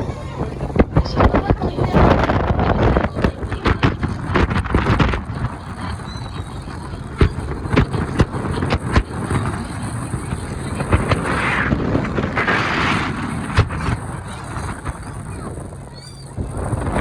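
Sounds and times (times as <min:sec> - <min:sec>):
boat engine running: 0:00.0 - 0:17.0
wind on microphone: 0:00.0 - 0:17.0.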